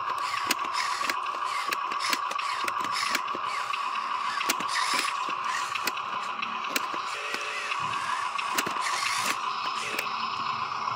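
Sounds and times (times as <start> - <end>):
small electric motor whining: 0.0 - 10.9.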